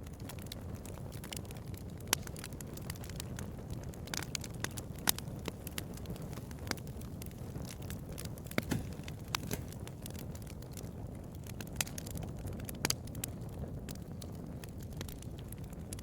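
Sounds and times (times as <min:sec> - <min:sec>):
bonfire crackling and popping: 0:00.0 - 0:16.0.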